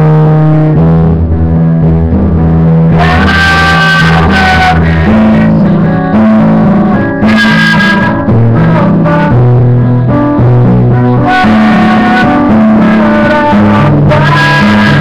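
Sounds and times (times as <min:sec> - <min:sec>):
acoustic guitar strumming: 0:00.0 - 0:15.0
person singing: 0:02.9 - 0:15.0.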